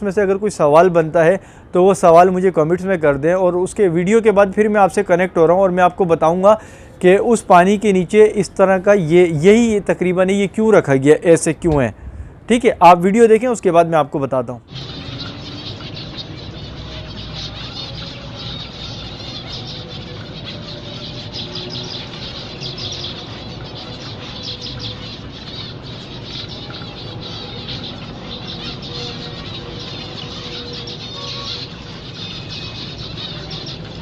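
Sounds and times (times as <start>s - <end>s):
finches chirping: 0.0s - 34.0s.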